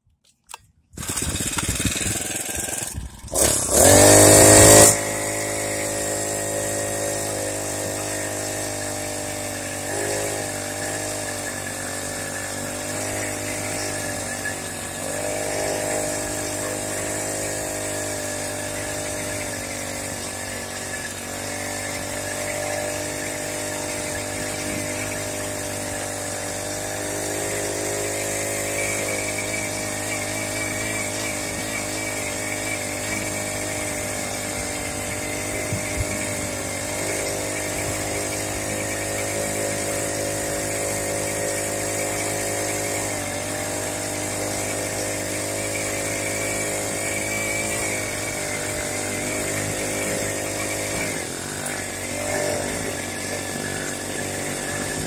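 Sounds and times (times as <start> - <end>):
small engine running: 0.5 - 55.0.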